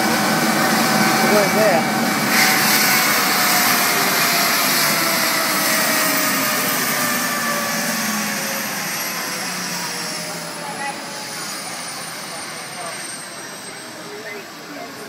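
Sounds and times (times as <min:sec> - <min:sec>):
helicopter turbines whining: 0:00.0 - 0:15.0.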